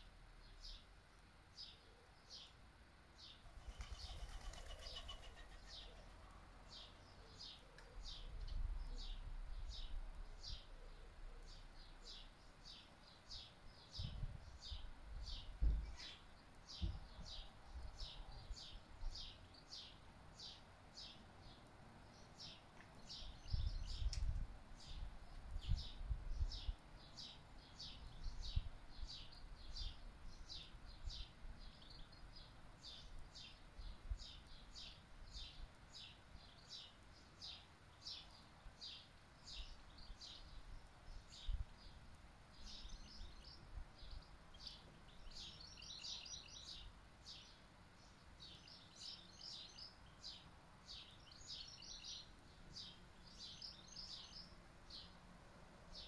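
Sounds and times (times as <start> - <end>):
bird chirping: 3.2 - 24.2, 24.8 - 56.0.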